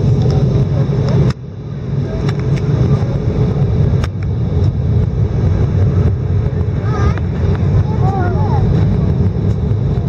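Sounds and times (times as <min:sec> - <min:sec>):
aircraft cabin engine rumble: 0:00.0 - 0:10.0.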